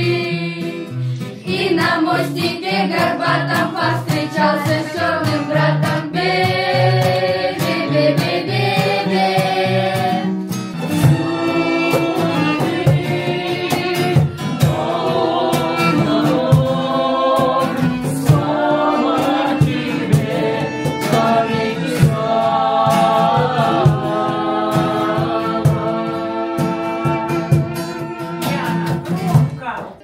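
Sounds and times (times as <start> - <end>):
group of voices singing: 0.0 - 29.1
strummed acoustic guitar: 0.0 - 29.8
cajon hits: 1.5 - 30.0
violin: 1.6 - 29.4.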